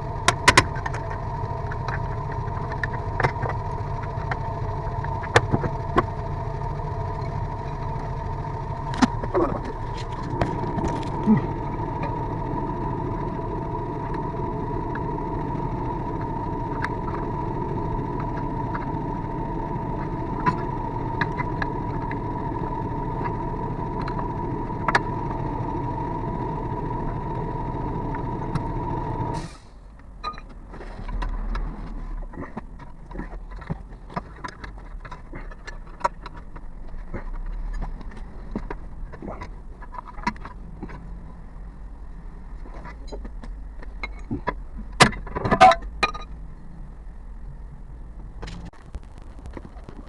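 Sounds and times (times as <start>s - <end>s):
vehicle drone with whining tone: 0.0s - 50.0s.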